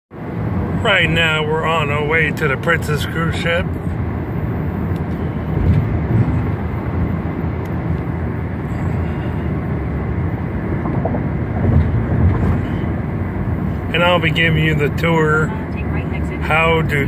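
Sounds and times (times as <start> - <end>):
car interior road and engine rumble: 0.2 - 17.0.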